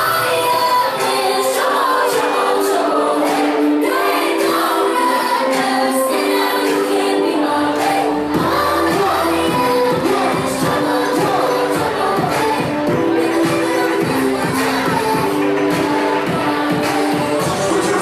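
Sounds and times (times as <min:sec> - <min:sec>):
electronic dance music: 0:00.0 - 0:18.0
person singing over chords: 0:00.0 - 0:18.0.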